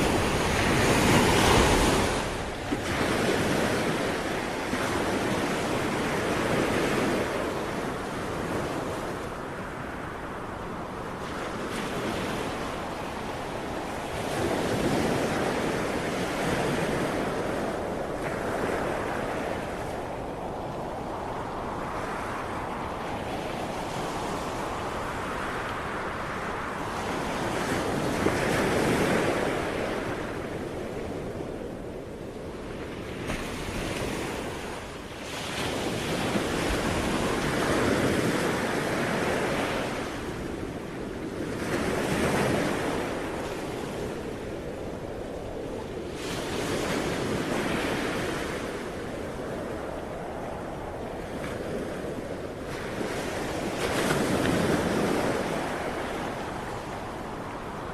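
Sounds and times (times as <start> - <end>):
ocean waves breaking on shore: 0.0 - 57.9
wind noise on microphone: 0.0 - 57.9.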